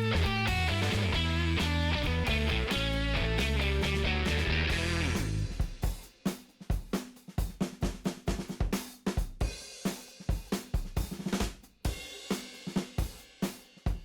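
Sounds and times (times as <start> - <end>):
drum kit playing steady beat: 0.0 - 14.0.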